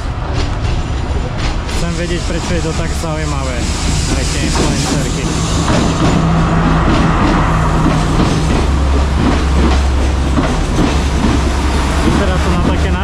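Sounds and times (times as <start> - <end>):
diesel train engine drone: 0.0 - 13.0.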